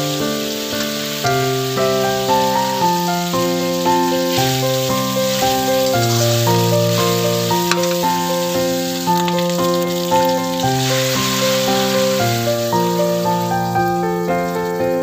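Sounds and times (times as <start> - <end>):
meat sizzling in a wok: 0.0 - 14.9
keyboard music: 0.0 - 15.0.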